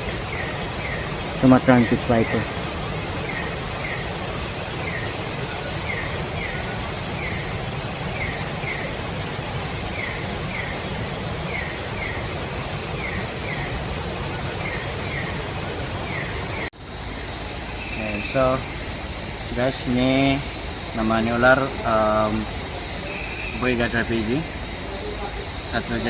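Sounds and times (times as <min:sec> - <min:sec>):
high-pitched insect drone: 0:00.0 - 0:26.0
rushing hiss: 0:00.0 - 0:26.0.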